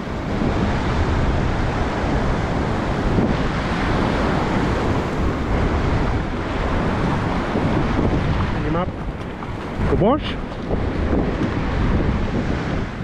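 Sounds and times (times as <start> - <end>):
surf breaking on sand: 0.0 - 13.0
wind buffeting microphone: 0.0 - 13.0.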